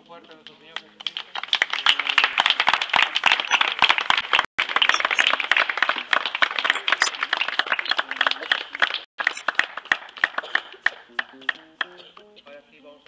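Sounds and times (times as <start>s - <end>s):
crowd applauding: 0.8s - 12.1s.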